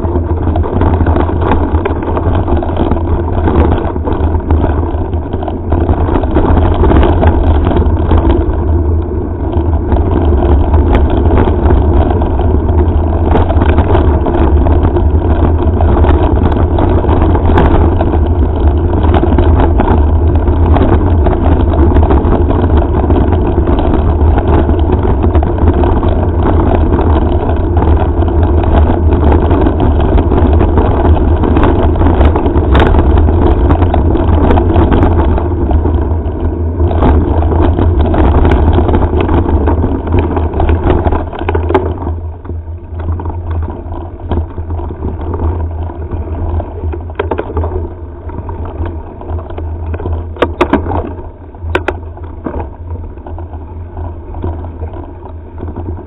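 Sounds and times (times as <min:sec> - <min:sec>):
bike knocks and rattles: 0:00.0 - 0:56.0
wind buffeting microphone: 0:00.0 - 0:56.0.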